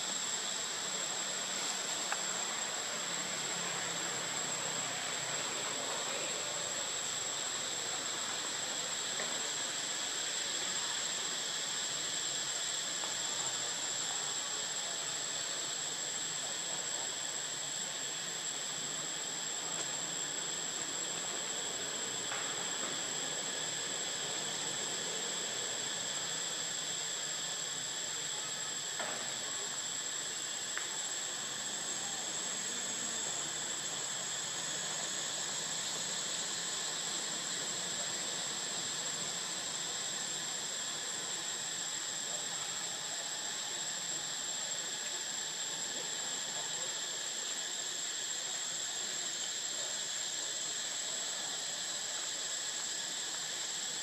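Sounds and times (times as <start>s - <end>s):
forest ambience hiss: 0.0s - 54.0s
high-pitched insect drone: 0.0s - 54.0s.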